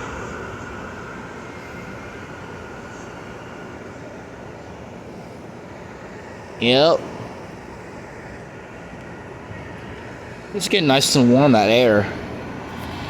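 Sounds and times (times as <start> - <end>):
compressors running quietly: 0.0 - 13.0
dehumidifier fans rushing air: 0.0 - 13.0.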